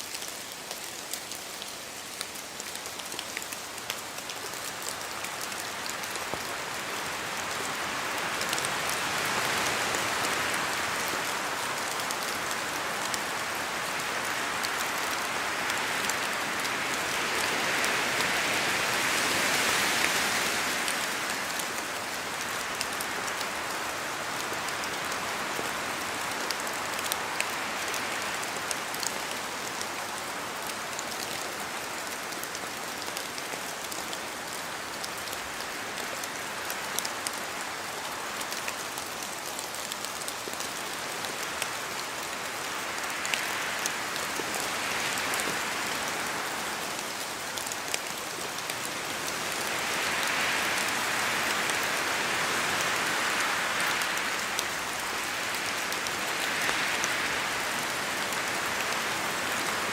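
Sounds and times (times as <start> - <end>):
rain falling through trees: 0.0 - 59.9
wind gusting through trees: 0.0 - 59.9.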